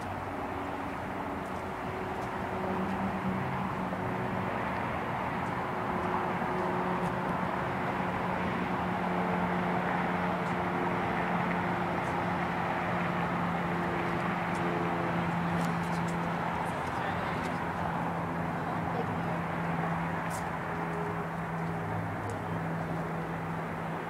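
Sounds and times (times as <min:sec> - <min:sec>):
road traffic engine hum: 0:00.0 - 0:24.0.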